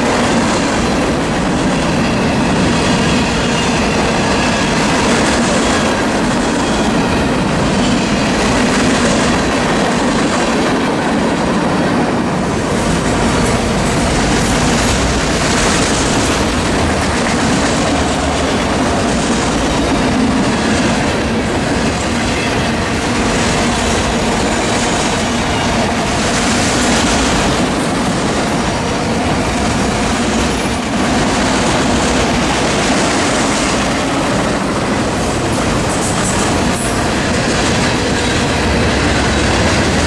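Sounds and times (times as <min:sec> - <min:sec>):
freight train wheels on rails: 0:00.0 - 0:40.0.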